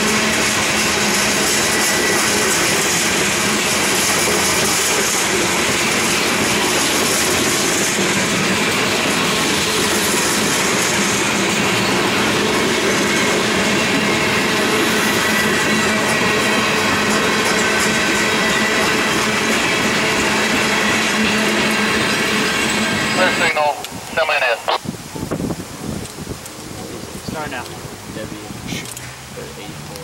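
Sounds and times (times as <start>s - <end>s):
clickety-clack from rail joints: 0.0s - 24.0s
rumble of wheels on rails: 0.0s - 24.1s.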